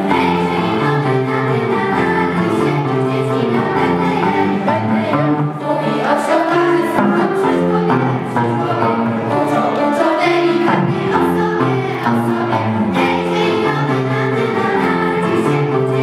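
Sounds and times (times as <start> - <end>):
electric guitar: 0.0 - 16.0
girls' choir singing in unison: 0.0 - 16.0.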